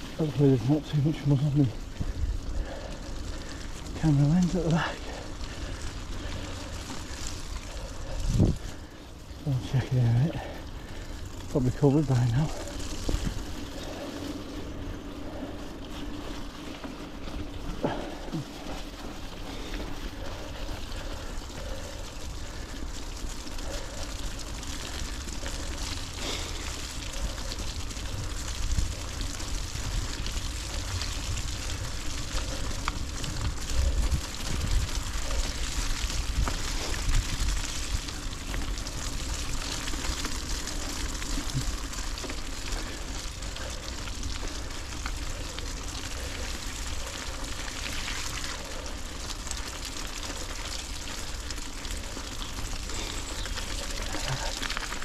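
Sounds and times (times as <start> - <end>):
bike tyres rolling through mud: 0.0 - 55.0.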